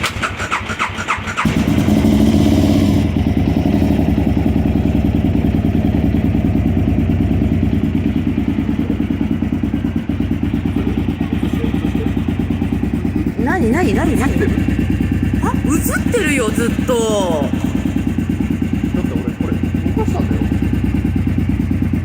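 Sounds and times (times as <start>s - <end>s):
motorcycle engine starting and idling: 0.0s - 22.0s.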